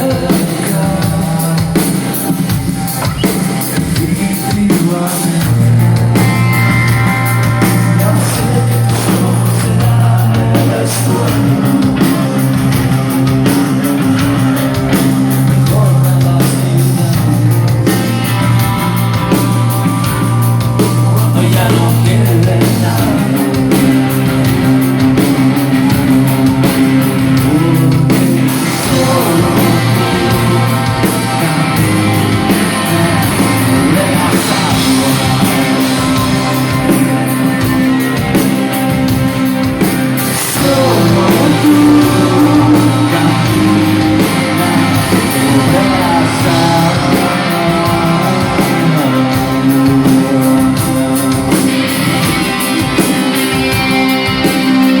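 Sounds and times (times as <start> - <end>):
live rock band playing: 0.0 - 55.0
person singing: 0.0 - 55.0
steady drum beat: 0.0 - 55.0.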